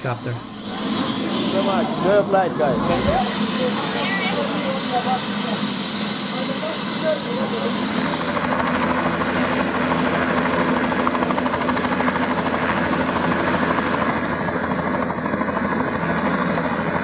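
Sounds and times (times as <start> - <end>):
helicopter rotor beating: 0.0 - 17.0.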